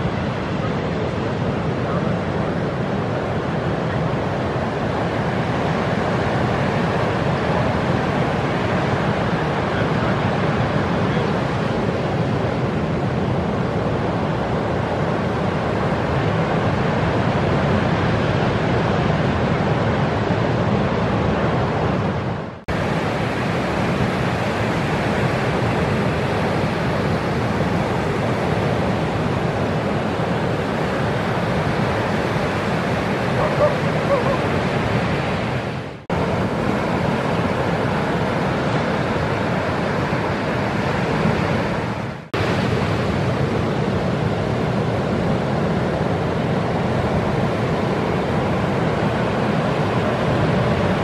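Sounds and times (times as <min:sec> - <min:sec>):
ocean waves breaking: 0:00.0 - 0:51.0.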